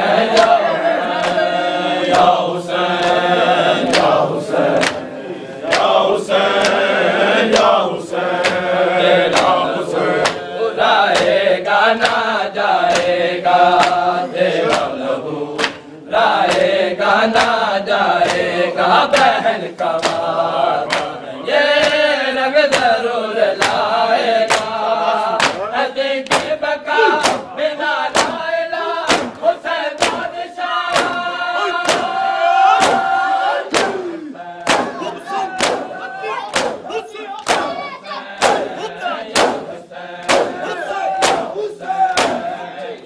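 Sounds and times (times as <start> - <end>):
crowd beating chests in unison: 0.0 - 43.0
men chanting a lament: 0.0 - 43.0.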